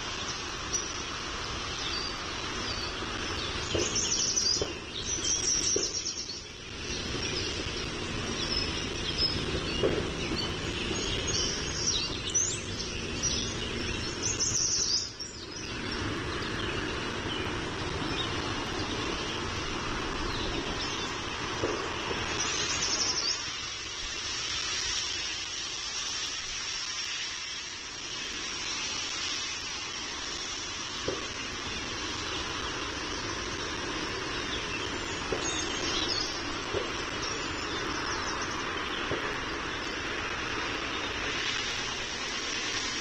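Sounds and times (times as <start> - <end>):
birds chirping: 0.0 - 43.0
outdoor background rumble: 0.0 - 43.0.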